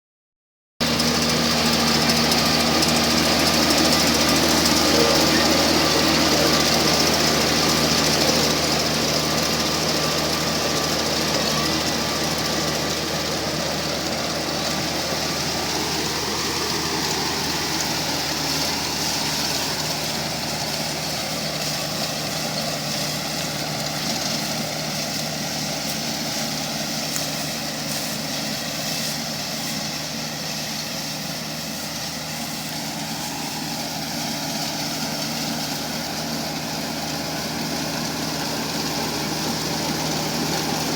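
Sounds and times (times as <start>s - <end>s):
diesel engine running: 0.8s - 40.9s.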